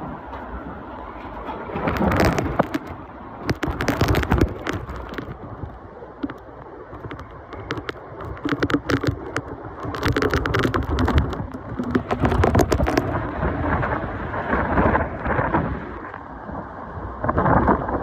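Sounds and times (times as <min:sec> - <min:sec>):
heavy rain: 0:00.0 - 0:18.0
hurricane wind: 0:00.0 - 0:18.0.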